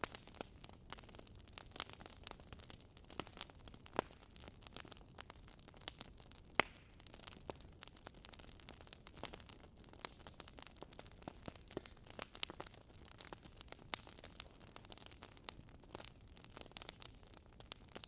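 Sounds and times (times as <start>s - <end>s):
firewood crackling and snapping: 0.0s - 18.0s.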